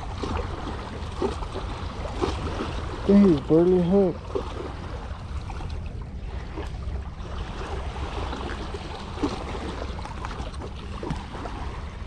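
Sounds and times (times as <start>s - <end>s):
water lapping against rocks: 0.0s - 12.0s
wind rumble on microphone: 0.0s - 12.0s.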